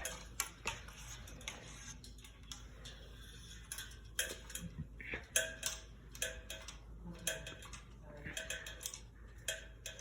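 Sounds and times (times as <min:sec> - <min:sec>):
fan parts clicking and knocking: 0:00.0 - 0:10.0.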